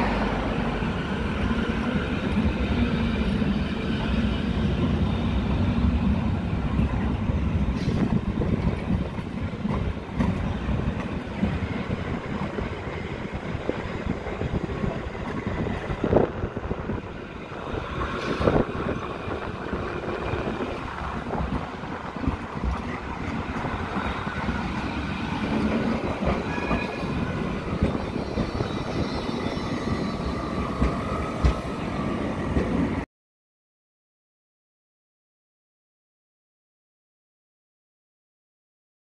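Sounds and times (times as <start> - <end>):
tram wheels clattering over rail joints: 0.1 - 33.0.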